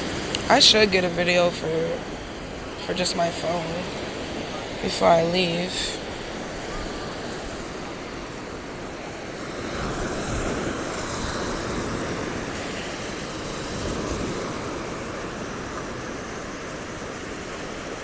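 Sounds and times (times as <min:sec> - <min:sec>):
ocean surf breaking on beach: 0:00.0 - 0:18.0.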